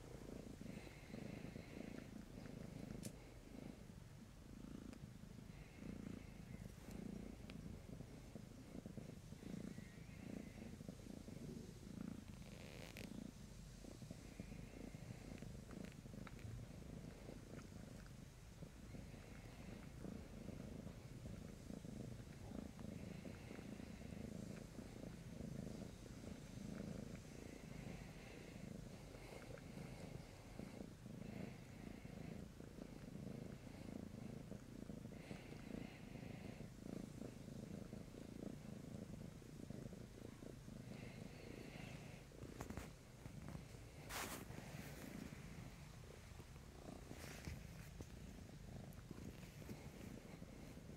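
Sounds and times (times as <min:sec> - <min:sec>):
cat purring: 0:00.0 - 0:50.9
faint rustles: 0:00.0 - 0:50.9.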